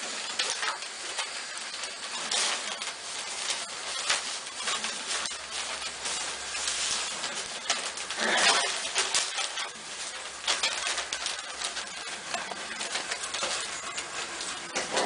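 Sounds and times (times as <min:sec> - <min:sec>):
newspaper rustling and crinkling: 0:00.0 - 0:15.0
soft cooing calls: 0:02.2 - 0:15.0.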